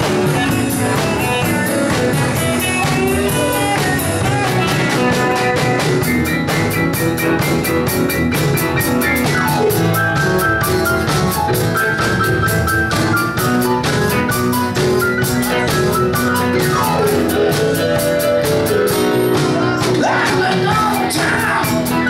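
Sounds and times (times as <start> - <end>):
amplified guitars: 0.0 - 22.0
bass guitar: 0.0 - 22.0
drum kit beat: 0.0 - 22.0
keyboard: 0.0 - 22.0.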